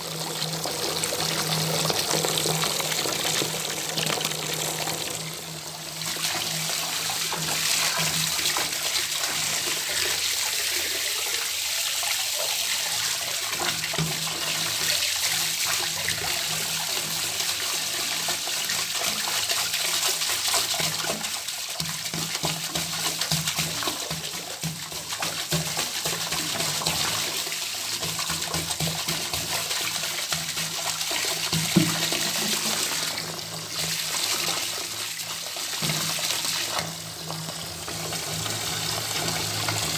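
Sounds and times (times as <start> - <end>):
tap water running into bathtub: 0.0 - 39.9.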